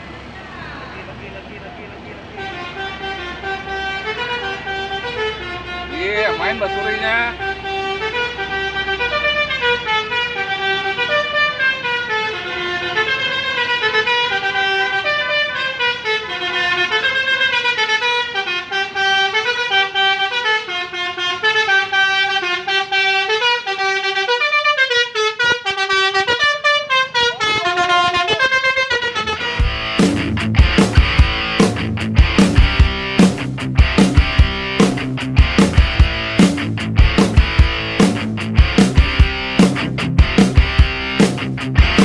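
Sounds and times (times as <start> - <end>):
multi-tone bus horn tune: 0.1 - 42.0.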